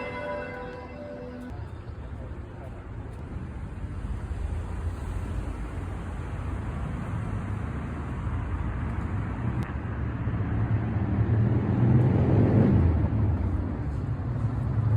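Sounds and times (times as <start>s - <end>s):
traffic rumble: 0.0s - 14.9s.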